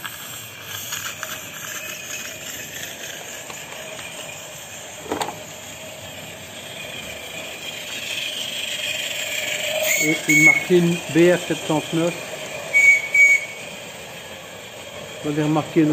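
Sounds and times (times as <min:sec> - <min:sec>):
steam hissing: 0:00.0 - 0:15.9
wheels rattling on rails: 0:00.0 - 0:15.9.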